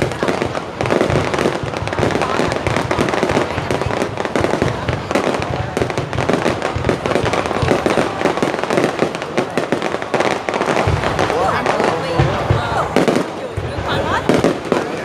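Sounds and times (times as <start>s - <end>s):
fireworks bangs and crackling pops: 0.0s - 15.0s
onlookers' voices: 0.0s - 15.0s.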